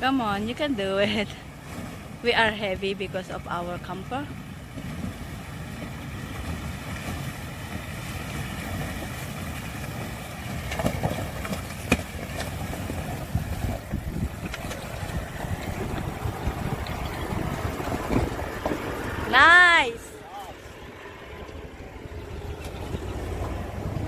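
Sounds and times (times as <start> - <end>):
engine running under heavy load: 0.0 - 24.0.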